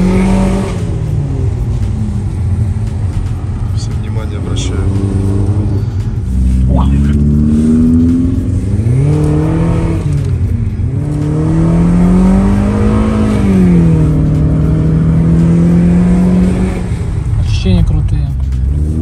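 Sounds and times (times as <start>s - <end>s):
car engine exhaust note: 0.0s - 19.0s.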